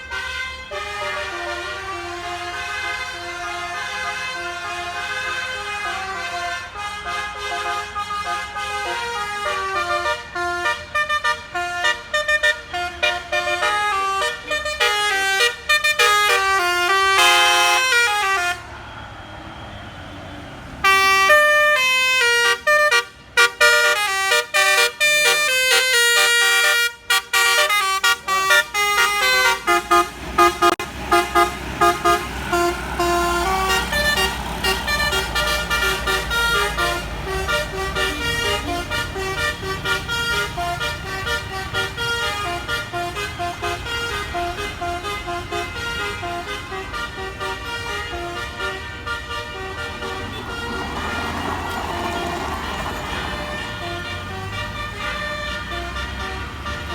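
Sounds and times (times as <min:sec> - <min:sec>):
road noise: 0:00.0 - 0:56.9
musical air horn tunes: 0:00.1 - 0:18.6, 0:20.8 - 0:56.9.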